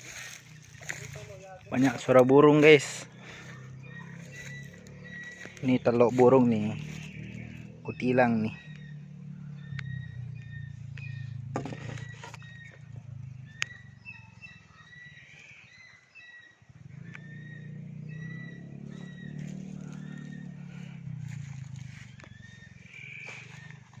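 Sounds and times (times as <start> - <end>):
wild birds chirping: 0.0 - 24.0.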